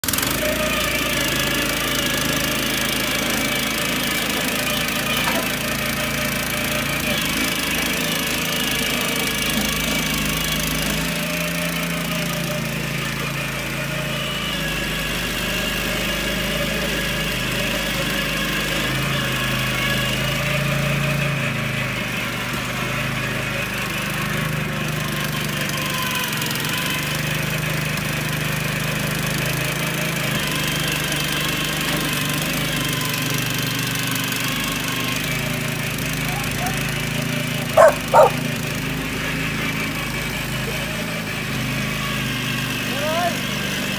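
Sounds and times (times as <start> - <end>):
tiller engine running: 0.0 - 43.9.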